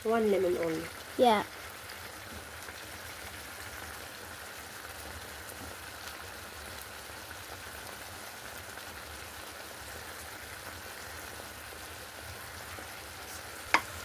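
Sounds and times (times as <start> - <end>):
sauce simmering in a frying pan: 0.0 - 14.0.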